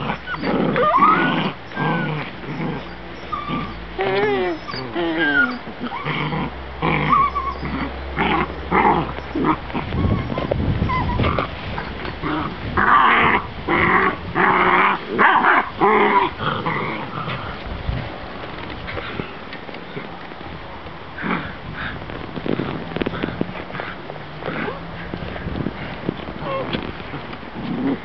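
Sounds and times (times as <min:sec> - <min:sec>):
puppies growling: 0:00.0 - 0:17.8, 0:21.2 - 0:28.0.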